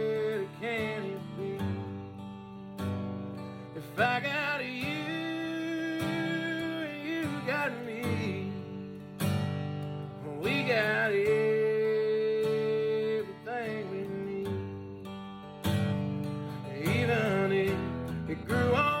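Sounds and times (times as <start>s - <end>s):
country music instrumental: 0.0s - 19.0s.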